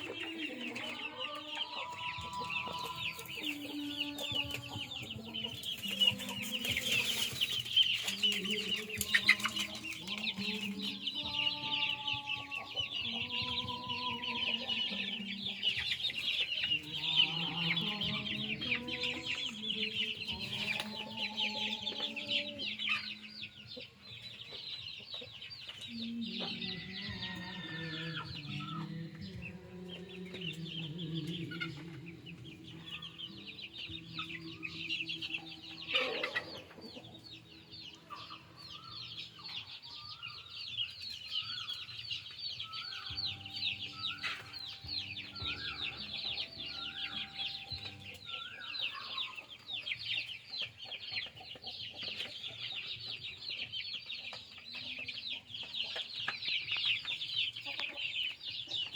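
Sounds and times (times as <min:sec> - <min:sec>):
chickens clucking and calling: 0:00.0 - 0:58.9.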